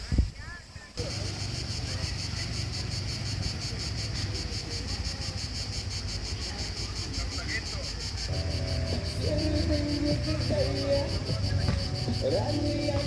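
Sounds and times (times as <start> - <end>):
cicadas singing: 0.0 - 13.0
distant quad bike engine hum: 1.0 - 13.0.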